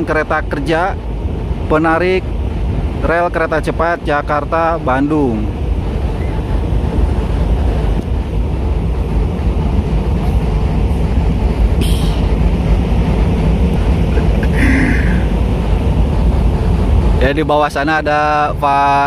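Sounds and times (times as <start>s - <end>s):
diesel locomotive idling: 0.0s - 19.0s.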